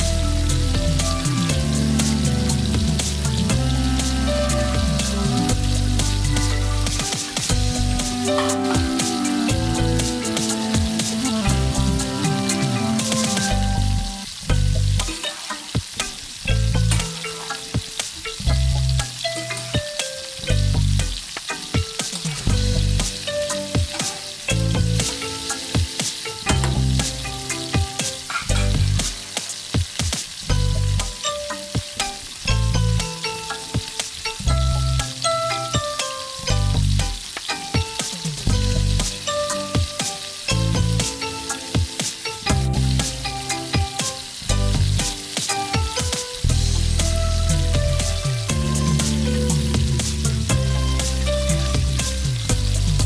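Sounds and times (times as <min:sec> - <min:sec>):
background music with bass: 0:00.0 - 0:53.0
curry sizzling in a pan: 0:00.0 - 0:53.0.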